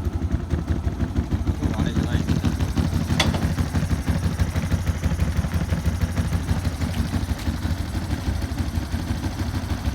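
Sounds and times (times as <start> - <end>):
scooter engine idling: 0.0 - 9.9.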